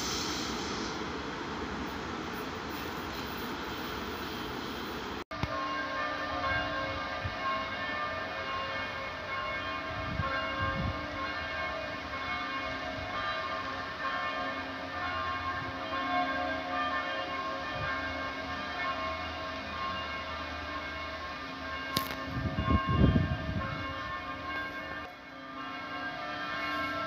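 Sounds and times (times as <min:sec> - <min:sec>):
church bells pealing: 0:05.3 - 0:27.0.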